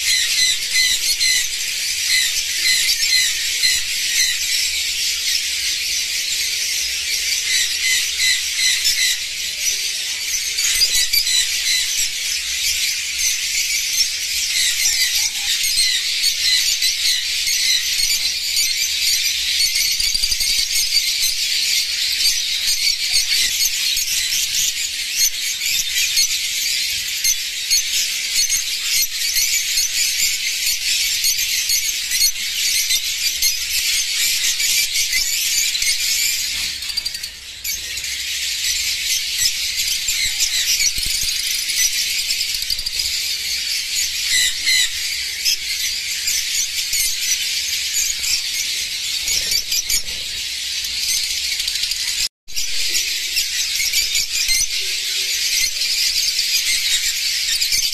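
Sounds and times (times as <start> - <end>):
lovebirds chattering: 0.0 - 57.9.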